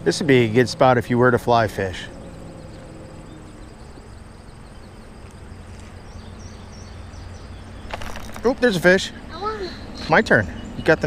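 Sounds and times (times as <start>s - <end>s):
high insect trill: 0.0s - 10.4s
stream background hiss: 0.0s - 11.0s.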